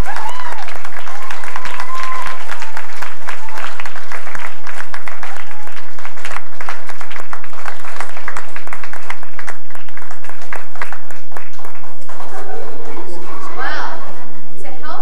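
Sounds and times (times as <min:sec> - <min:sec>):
children applauding: 0:00.0 - 0:13.2.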